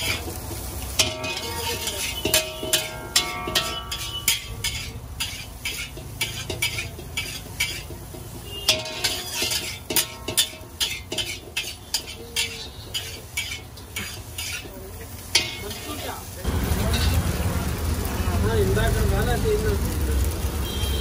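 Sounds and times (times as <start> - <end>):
metal spatula scraping a wok: 0.0 - 17.3
food sizzling: 0.0 - 21.0.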